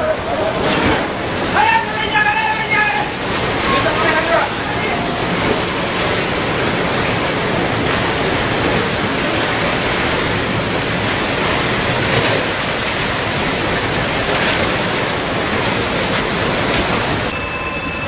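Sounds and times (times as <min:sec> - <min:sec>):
flood water rushing: 0:00.0 - 0:18.0.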